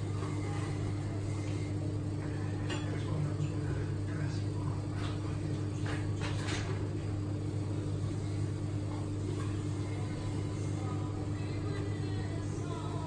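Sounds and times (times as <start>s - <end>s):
faint kitchen clatter: 0.0s - 13.0s
kitchen machinery hum: 0.0s - 13.0s.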